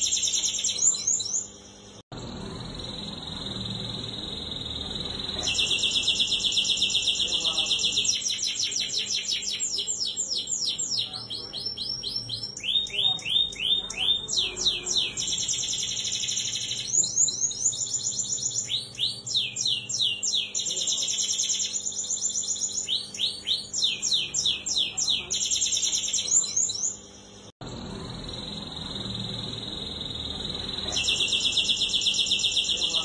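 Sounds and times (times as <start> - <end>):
canary singing trills: 0.0 - 33.0.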